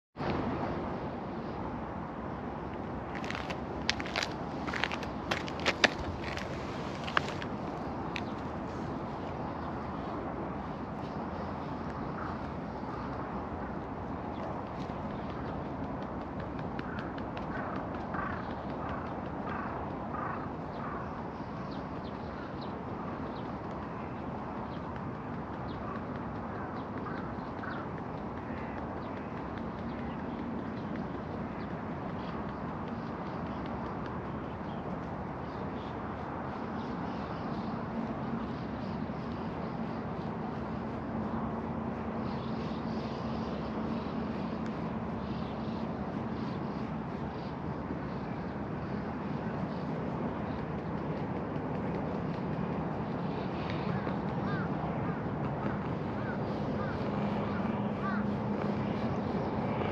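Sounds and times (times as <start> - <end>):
steady outdoor hum: 0.2 - 59.9.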